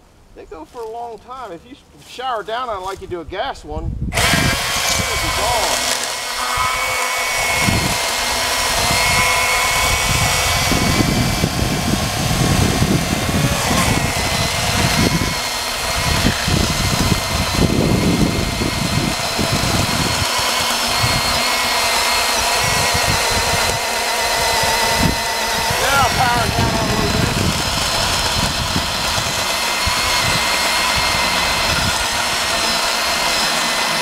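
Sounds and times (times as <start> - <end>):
electric chainsaw cutting log: 4.1 - 34.0.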